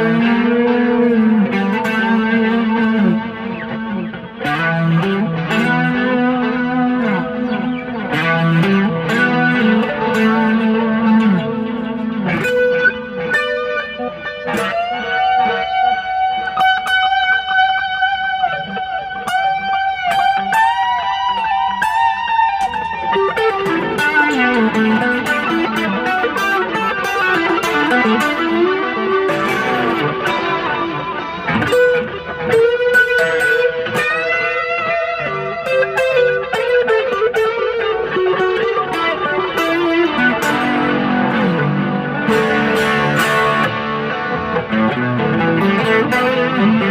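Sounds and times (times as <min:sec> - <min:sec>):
clean electric guitar lead: 0:00.0 - 0:46.9.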